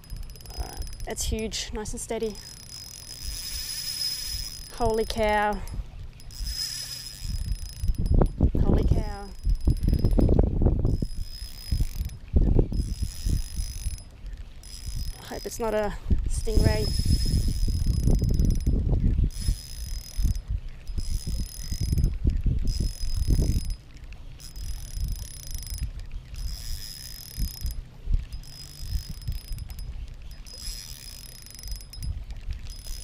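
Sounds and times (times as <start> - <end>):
fishing reel whirring: 0.0 - 33.0.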